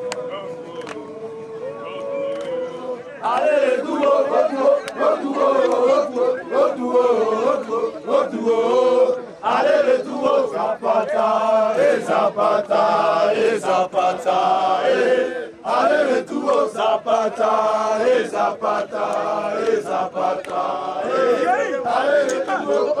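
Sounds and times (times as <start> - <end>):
group chanting rhythmic song: 0.0 - 23.0.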